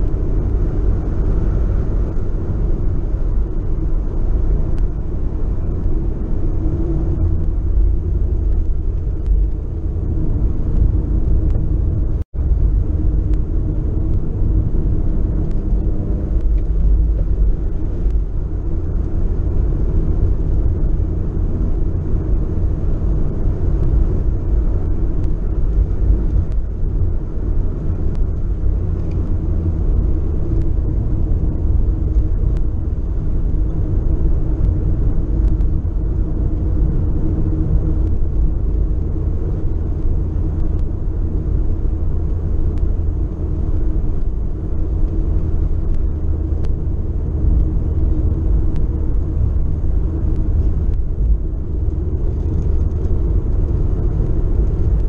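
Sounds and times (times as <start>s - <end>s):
car engine under load: 0.0s - 55.0s
road and wind noise: 0.0s - 55.0s.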